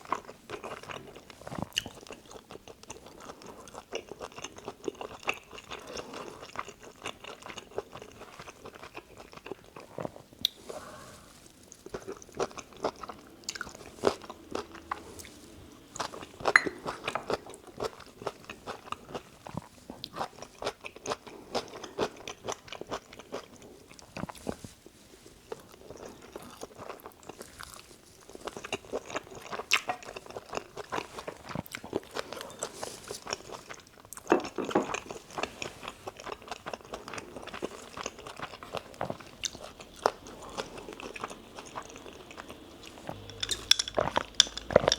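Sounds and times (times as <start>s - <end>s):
person chewing food: 0.0s - 24.7s, 25.5s - 44.9s.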